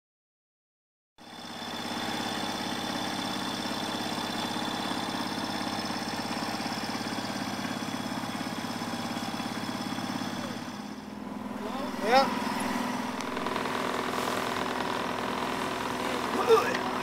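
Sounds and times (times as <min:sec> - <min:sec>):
boat engine running: 0:01.2 - 0:17.0.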